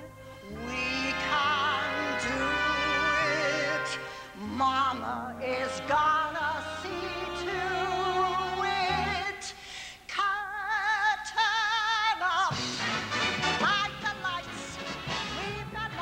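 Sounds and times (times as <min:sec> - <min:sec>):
live orchestra: 0:00.0 - 0:09.4, 0:12.5 - 0:16.0.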